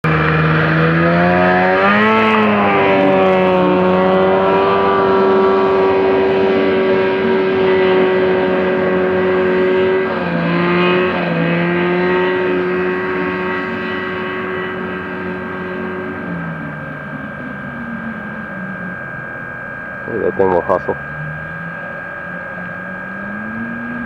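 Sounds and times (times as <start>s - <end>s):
engine running at high revs: 0.0s - 24.0s.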